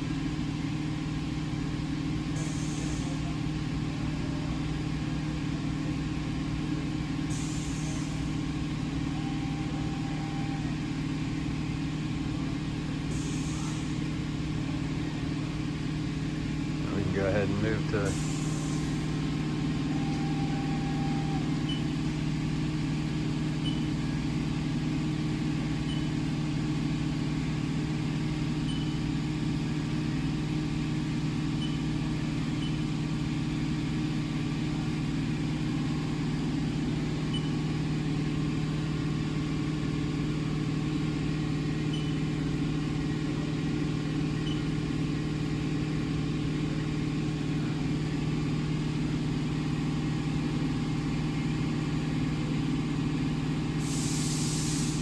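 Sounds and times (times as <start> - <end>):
machine humming: 0.0 - 53.9.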